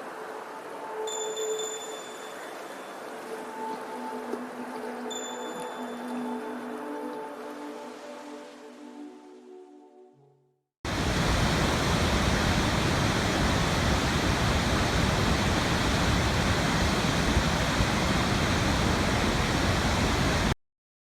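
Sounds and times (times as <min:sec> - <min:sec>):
rushing water: 0:00.0 - 0:09.4, 0:10.9 - 0:20.6.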